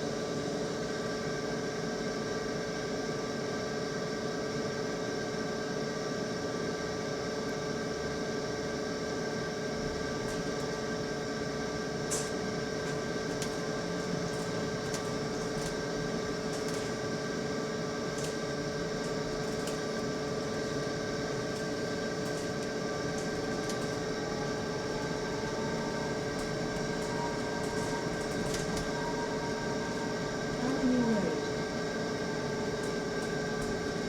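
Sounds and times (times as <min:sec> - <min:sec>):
whining hum of moving bus: 0:00.0 - 0:34.0.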